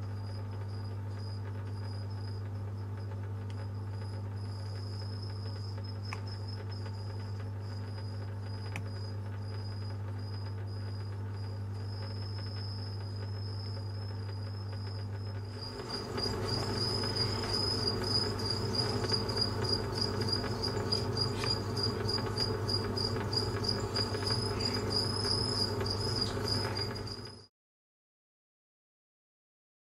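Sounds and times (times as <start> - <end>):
low steady hum: 0.0 - 27.4
crickets chirping: 0.0 - 27.5.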